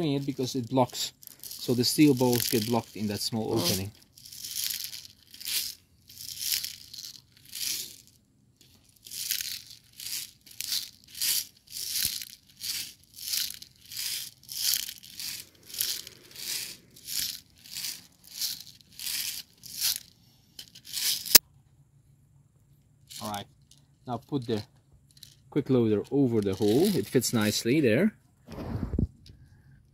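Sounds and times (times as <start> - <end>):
metal balls rattling in plastic: 0.0 - 21.4, 23.1 - 27.6.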